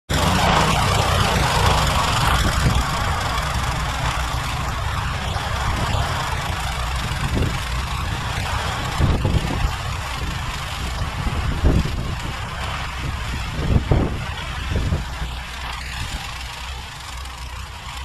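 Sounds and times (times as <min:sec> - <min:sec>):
rushing noise: 0:00.1 - 0:18.0
snowblower engine running: 0:00.1 - 0:18.0.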